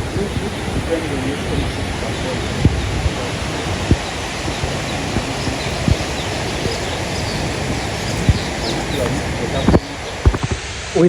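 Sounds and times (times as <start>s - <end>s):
faint bird chirps: 0.0s - 10.4s
waterfall rushing: 0.0s - 11.0s.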